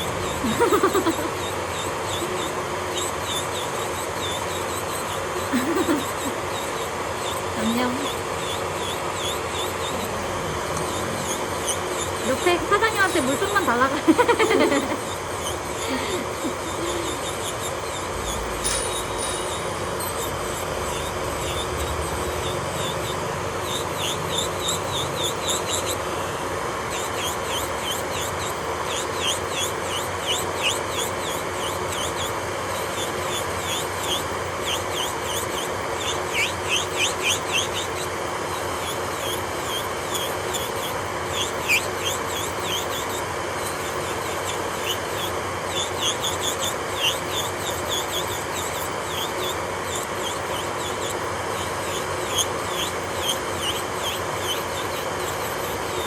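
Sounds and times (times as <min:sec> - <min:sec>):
drill bit squeaking: 0:00.0 - 0:56.0
electric nail drill grinding: 0:00.0 - 0:56.0.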